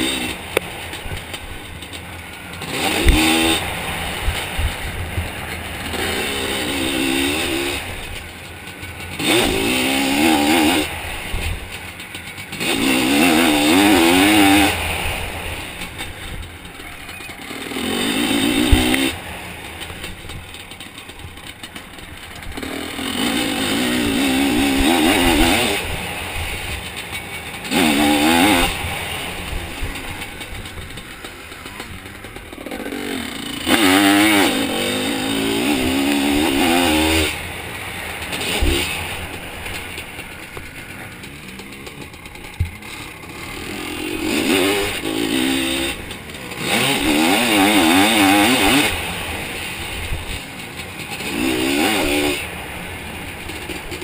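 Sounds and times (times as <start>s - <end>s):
two-stroke engine revving: 0.0s - 54.0s.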